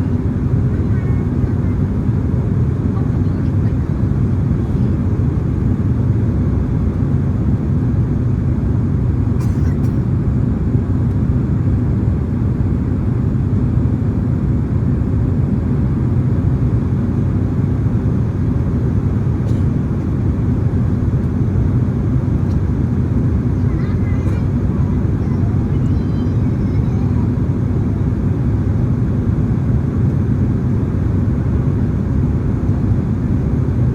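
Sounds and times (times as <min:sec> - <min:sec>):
airliner cabin rumble: 0:00.0 - 0:33.9.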